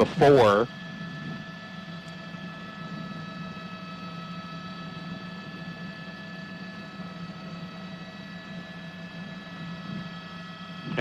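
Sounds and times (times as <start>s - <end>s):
steady low drone: 0.0s - 11.0s.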